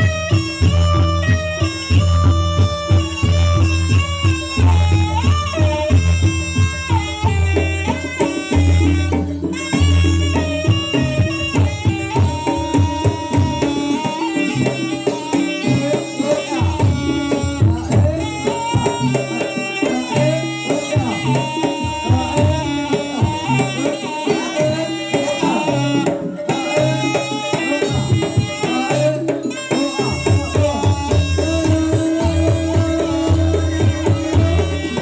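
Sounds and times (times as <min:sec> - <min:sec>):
hand drums beating: 0:00.0 - 0:35.0
sustained melody instruments: 0:00.0 - 0:35.0.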